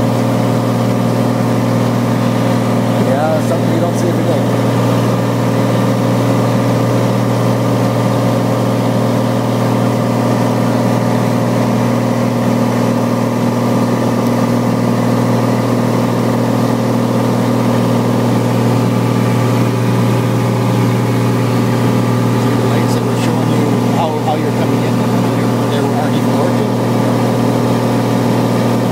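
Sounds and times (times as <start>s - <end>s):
light aircraft engine droning: 0.0s - 28.9s.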